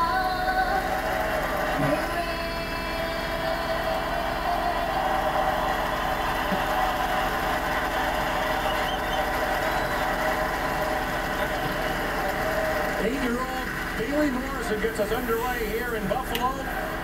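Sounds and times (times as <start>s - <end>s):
crowd cheering and applauding: 0.0s - 15.6s, 16.4s - 17.0s.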